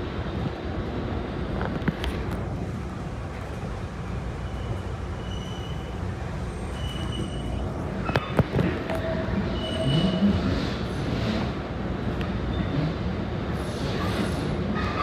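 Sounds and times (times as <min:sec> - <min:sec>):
subway train rumble: 0:00.0 - 0:15.0.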